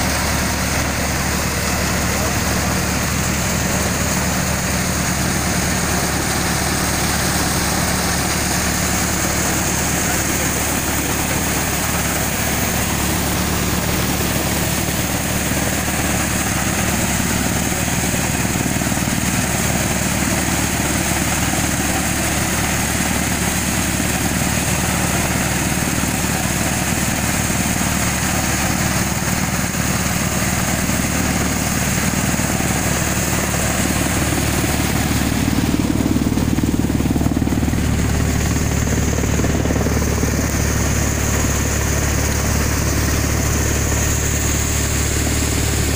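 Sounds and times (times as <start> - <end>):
crop thresher drone: 0.0 - 45.9
engine hum: 0.0 - 45.9.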